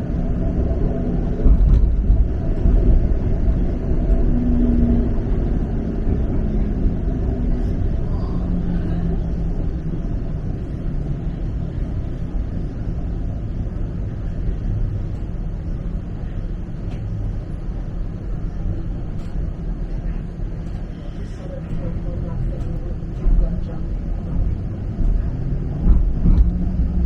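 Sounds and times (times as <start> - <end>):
streetcar rumbling on track: 0.0 - 27.0.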